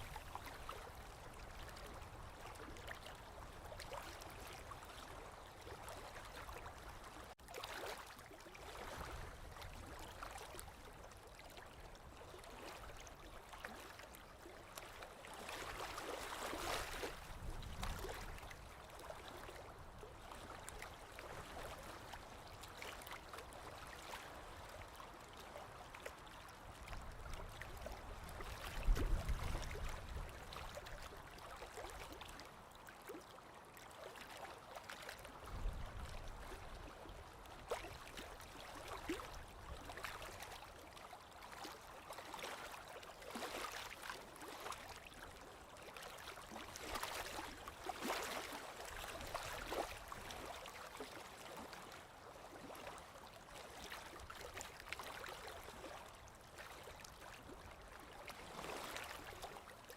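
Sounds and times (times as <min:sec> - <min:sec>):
small waves lapping against shore: 0:00.0 - 0:59.9.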